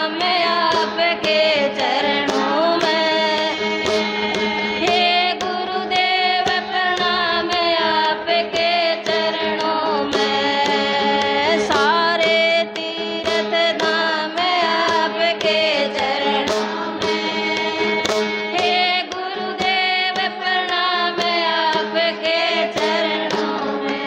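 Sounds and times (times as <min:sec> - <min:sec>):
sharp rhythmic strikes: 0:00.0 - 0:24.0
woman singing: 0:00.0 - 0:24.0.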